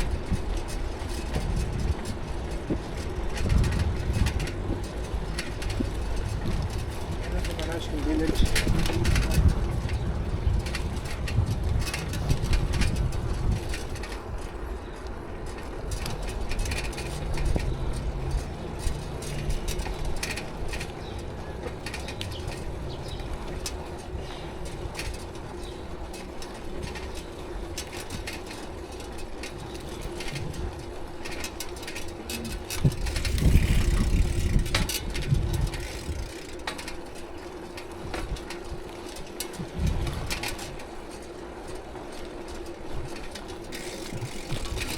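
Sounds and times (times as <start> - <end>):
road noise: 0.0 - 44.9
wind rumbling on microphone: 0.0 - 44.9.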